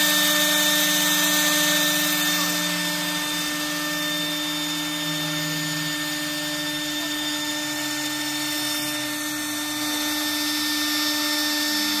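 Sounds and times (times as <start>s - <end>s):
router spindle whine: 0.0s - 12.0s
rushing cutting noise: 0.0s - 12.0s.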